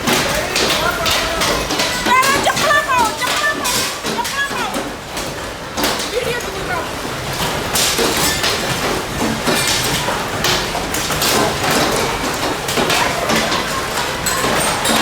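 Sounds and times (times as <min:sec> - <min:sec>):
hailstones pelting hard surfaces: 0:00.0 - 0:15.0.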